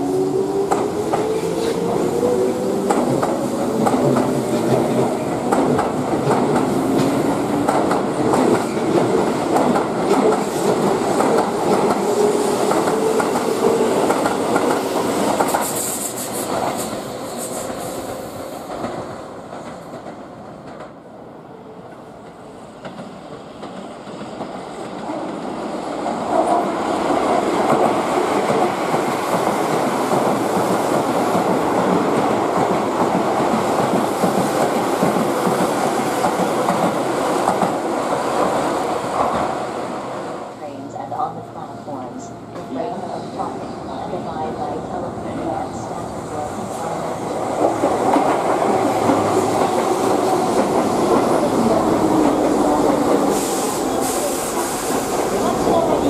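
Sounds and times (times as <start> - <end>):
train passing through station: 0.0 - 56.0.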